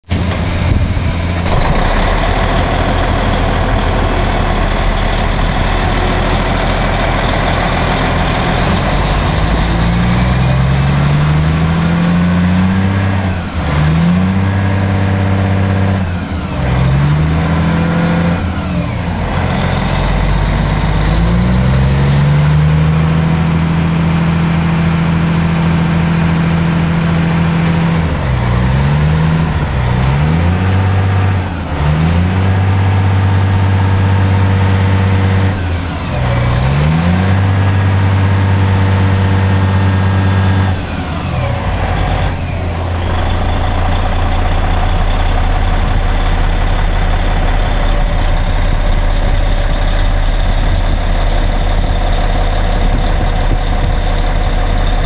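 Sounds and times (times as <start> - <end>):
bulldozer diesel engine revving: 0.0 - 55.0.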